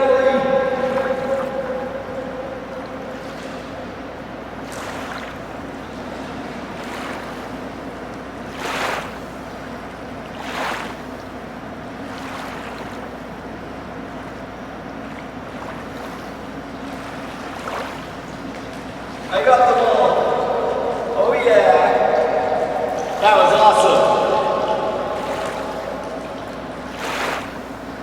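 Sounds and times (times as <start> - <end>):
steady low hum: 0.0 - 10.4, 11.0 - 28.0
pool water sloshing and splashing: 0.0 - 28.0.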